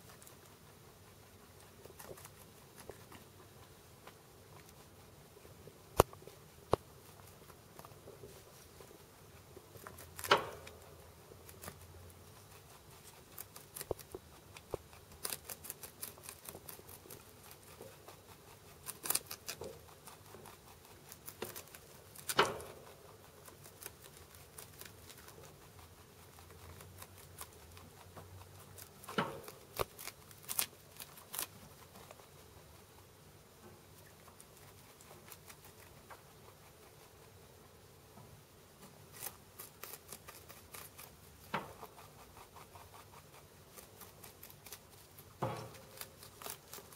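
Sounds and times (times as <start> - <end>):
rabbit chewing crisp leaves: 0.0 - 46.9.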